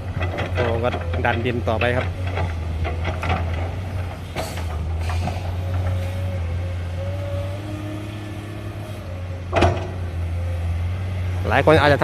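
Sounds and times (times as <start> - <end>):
diesel machinery engine drone: 0.0 - 12.0.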